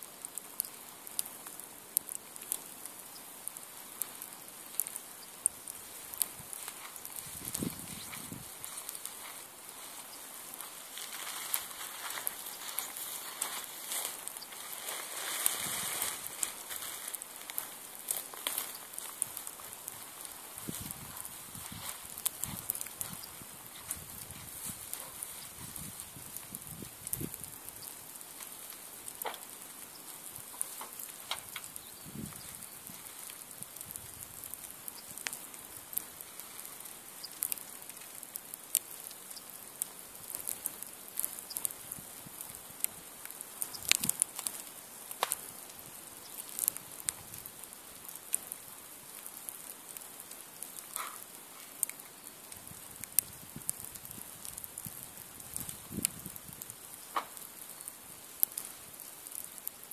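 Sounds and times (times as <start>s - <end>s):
campfire crackling and popping: 0.0s - 59.9s
fire hissing: 0.0s - 59.9s.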